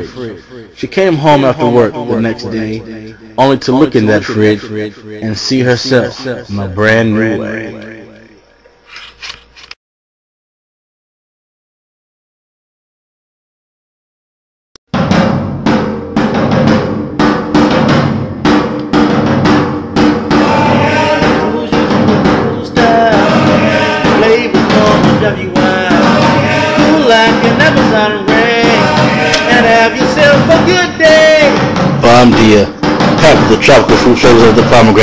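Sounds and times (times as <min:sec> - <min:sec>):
drum kit beat: 0:00.0 - 0:08.4, 0:14.9 - 0:35.0.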